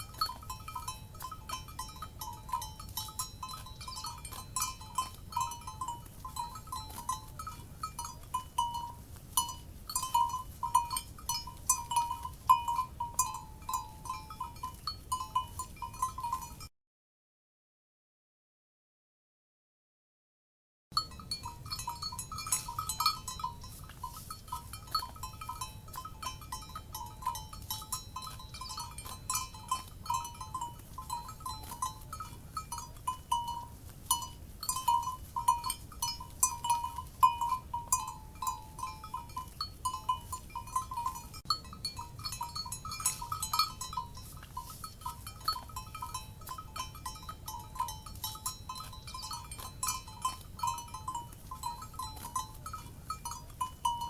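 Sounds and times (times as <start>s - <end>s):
cowbells clanking: 0.0s - 16.7s, 21.0s - 54.0s.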